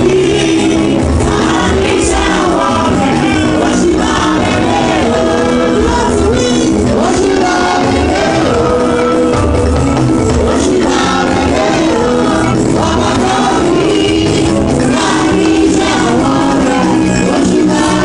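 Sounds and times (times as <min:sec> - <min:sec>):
woman singing through a microphone: 0:00.0 - 0:09.5, 0:10.4 - 0:18.0
choir singing: 0:00.0 - 0:09.6, 0:10.2 - 0:18.0
drum beat: 0:00.0 - 0:18.0.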